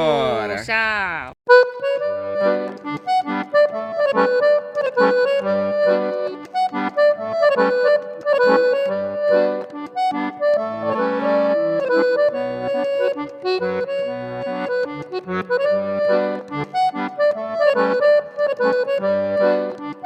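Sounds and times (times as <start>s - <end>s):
accordion music: 1.5s - 20.0s.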